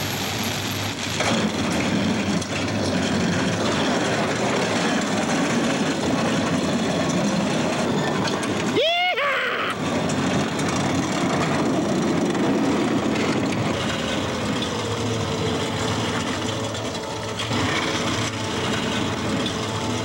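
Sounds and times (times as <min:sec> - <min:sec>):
chain scraping along pavement: 0:00.0 - 0:08.8, 0:09.8 - 0:20.0
car driving slowly: 0:00.0 - 0:20.0.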